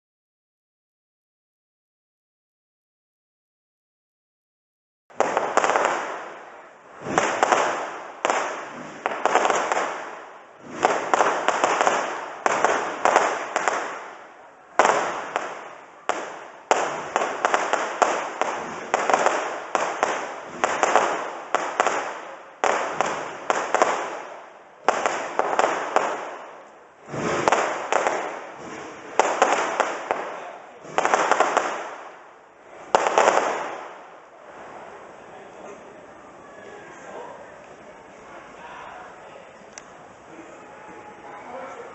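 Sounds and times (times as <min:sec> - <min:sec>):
fireworks bursting with echo: 0:05.1 - 0:38.7.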